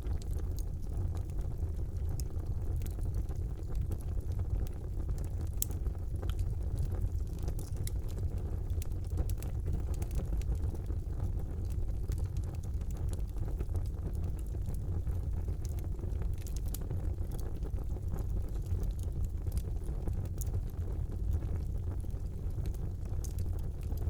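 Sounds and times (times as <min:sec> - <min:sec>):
fire crackles and pops: 0:00.0 - 0:24.0
fire flames rumbling: 0:00.0 - 0:24.0.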